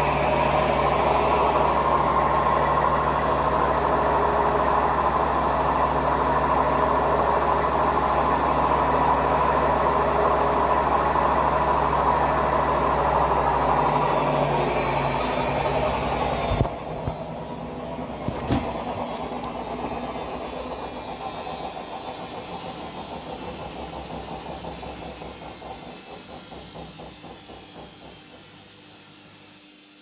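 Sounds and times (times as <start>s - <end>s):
washing machine drum spinning: 0.0s - 28.9s.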